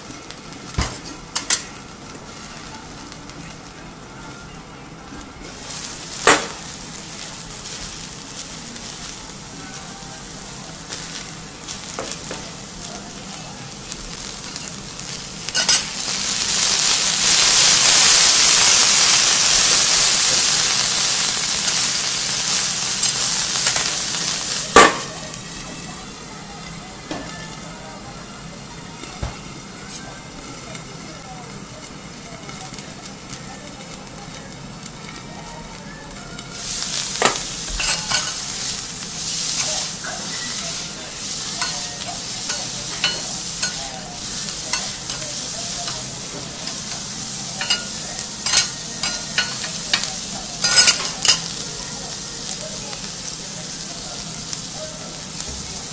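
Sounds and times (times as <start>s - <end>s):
food sizzling on a griddle: 0.0s - 55.9s.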